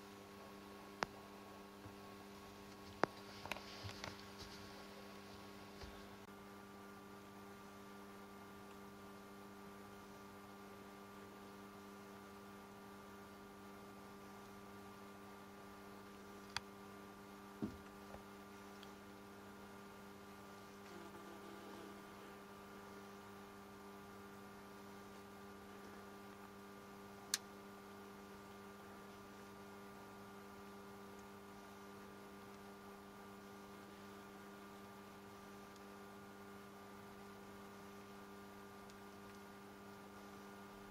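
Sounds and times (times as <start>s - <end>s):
faint electrical hum: 0.0s - 40.9s.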